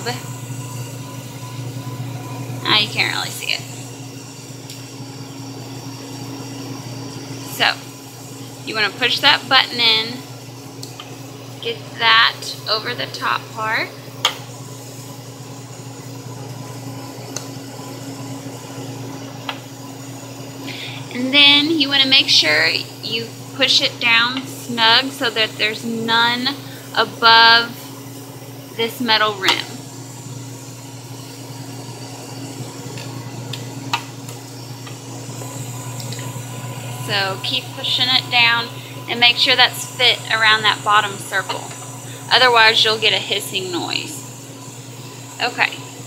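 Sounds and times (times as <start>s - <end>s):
analyzer fans and motors humming: 0.0s - 46.0s.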